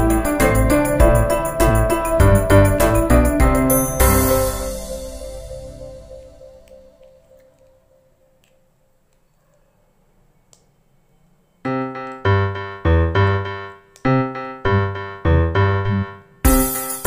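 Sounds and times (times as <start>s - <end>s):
keyboard playing notes and chords: 0.0s - 8.8s, 11.6s - 17.0s.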